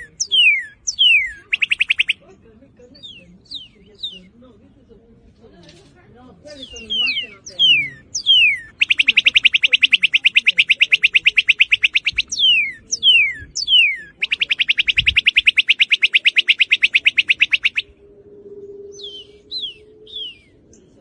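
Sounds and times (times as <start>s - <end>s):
bird singing whistles and trills: 0.0s - 2.2s, 2.9s - 4.4s, 6.5s - 21.0s.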